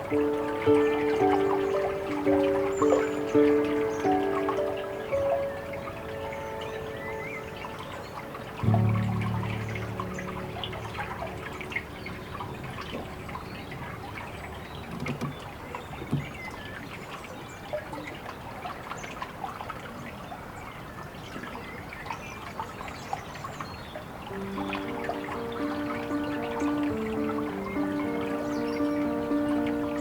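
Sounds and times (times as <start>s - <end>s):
water trickling with drips: 0.0s - 30.0s.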